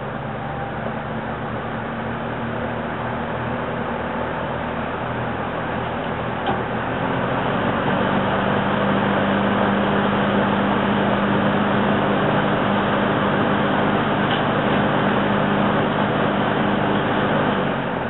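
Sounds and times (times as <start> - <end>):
fan rushing air with motor hum: 0.0 - 18.0.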